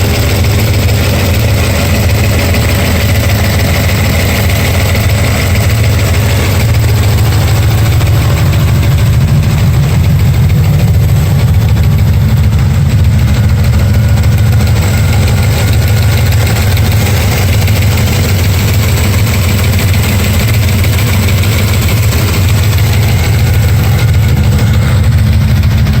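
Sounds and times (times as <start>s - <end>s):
engine idling with ticking: 0.0s - 26.0s.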